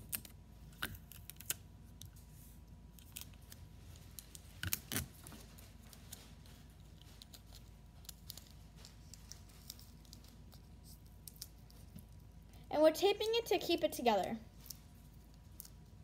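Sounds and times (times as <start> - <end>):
tape crinkling and clicking: 0.0 - 12.5, 14.5 - 16.0.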